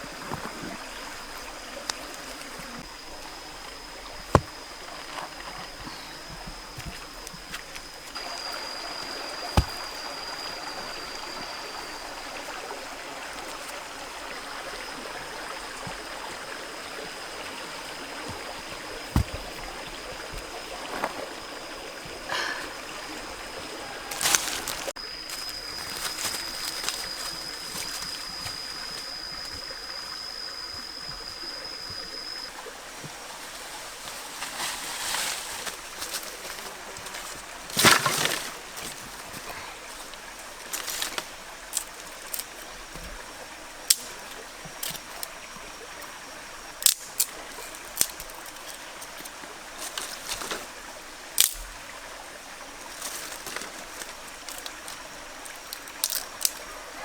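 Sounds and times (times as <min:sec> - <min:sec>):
water trickling and sloshing: 0:00.0 - 0:57.0.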